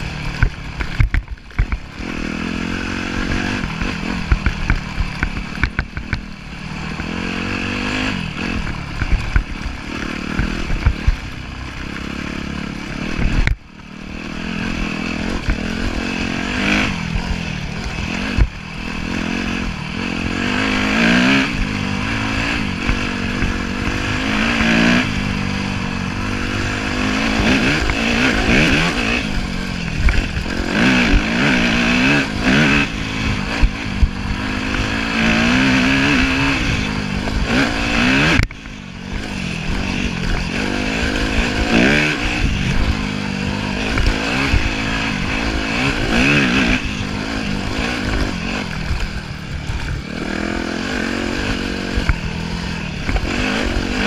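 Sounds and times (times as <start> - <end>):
dirt bike engine revving: 0.0 - 54.0
knocks and clatter from bike: 0.0 - 54.0.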